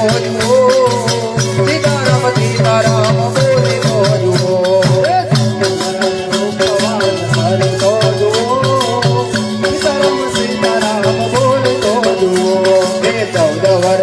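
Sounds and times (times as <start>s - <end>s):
hand percussion and jingling rattles: 0.0s - 14.0s.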